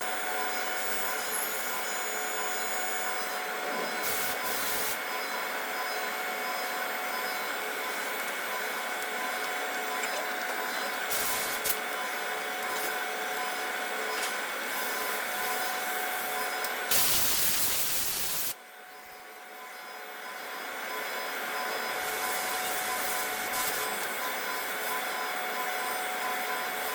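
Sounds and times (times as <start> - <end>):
machine tool whining: 0.0 - 26.9.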